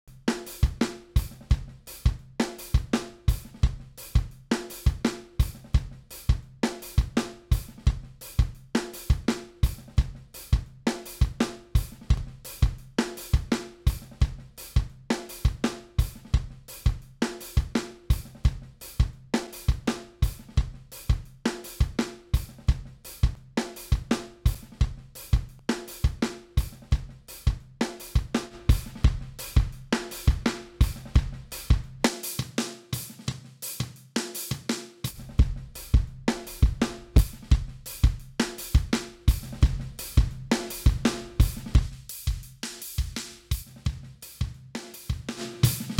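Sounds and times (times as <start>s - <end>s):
metal drum kit loop: 0.2s - 45.9s.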